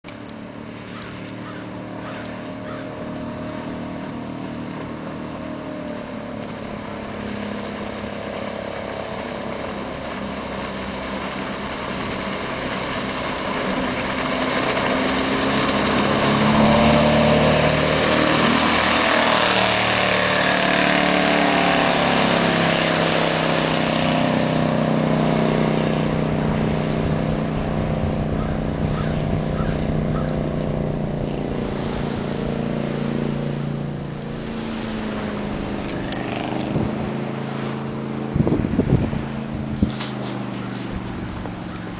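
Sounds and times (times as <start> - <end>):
powerboat engine droning: 0.0 - 41.9
spray and wake rushing: 0.1 - 41.9.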